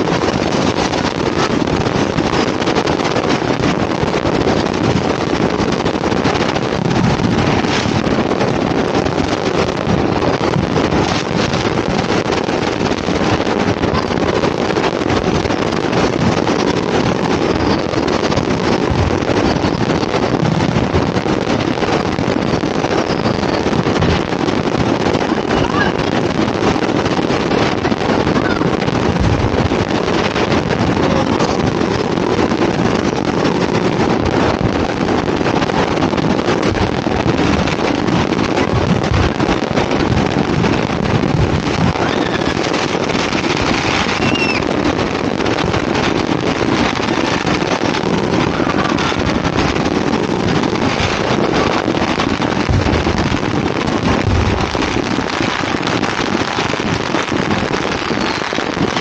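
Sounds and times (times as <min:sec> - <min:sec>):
firecrackers crackling: 0:00.0 - 0:59.0
wind buffeting microphone: 0:00.0 - 0:59.0.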